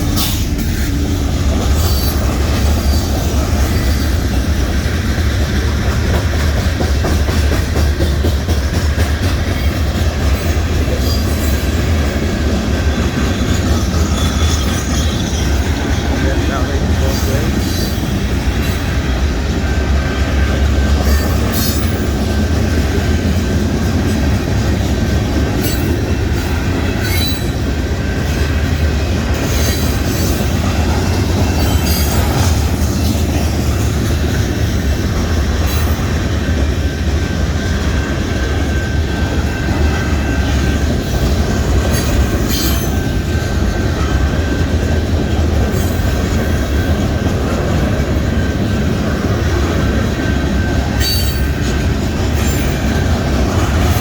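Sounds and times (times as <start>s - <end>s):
train cars rumbling past: 0.0s - 54.0s.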